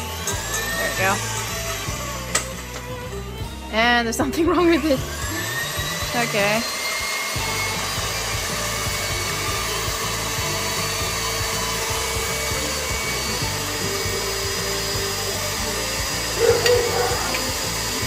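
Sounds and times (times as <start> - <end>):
electric stand mixer running: 0.0 - 18.0.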